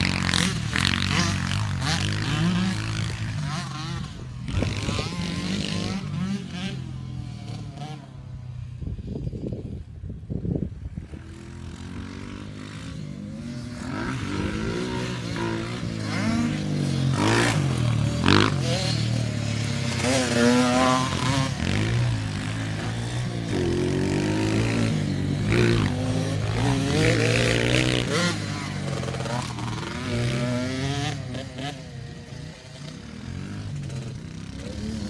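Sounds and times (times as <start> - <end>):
dirt bike engine revving: 0.0 - 9.4, 10.8 - 35.0.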